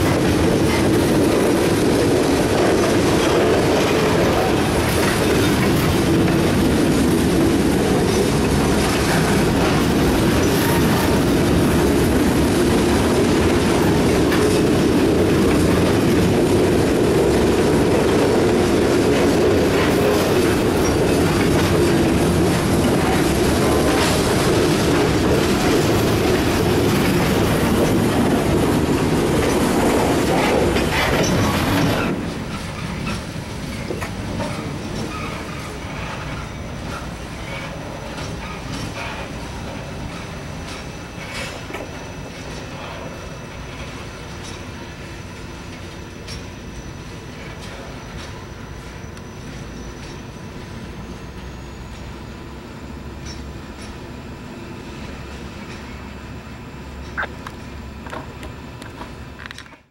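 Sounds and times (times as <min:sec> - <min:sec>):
wheels clacking over rail joints: 0:00.0 - 0:52.3, 0:53.0 - 0:54.2
steel wheels rumbling on rail: 0:00.0 - 0:59.9.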